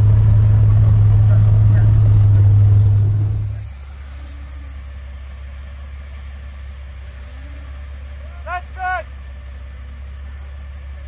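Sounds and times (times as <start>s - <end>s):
engine drone in cab: 0.0s - 11.0s.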